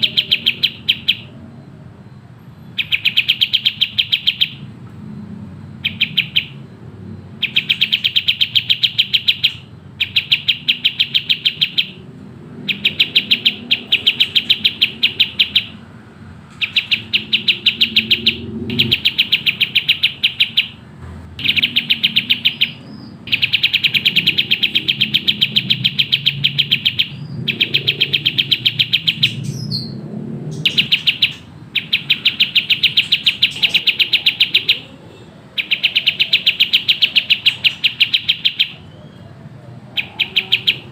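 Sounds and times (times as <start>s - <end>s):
bird chattering song: 0.0s - 1.6s, 2.6s - 4.7s, 5.8s - 40.9s.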